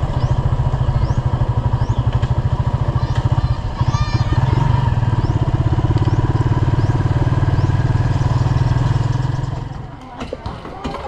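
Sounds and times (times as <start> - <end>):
small motorcycle engine running: 0.0 - 10.1.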